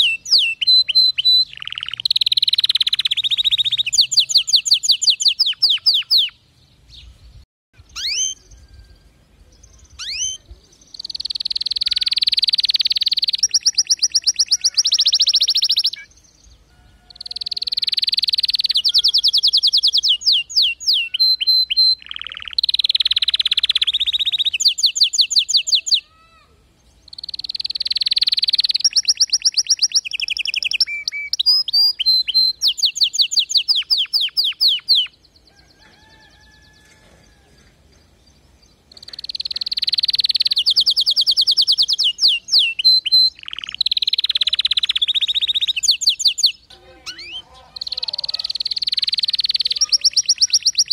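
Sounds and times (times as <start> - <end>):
canary singing trills: 0.0 - 7.2, 7.8 - 26.1, 26.9 - 37.5, 38.3 - 50.9.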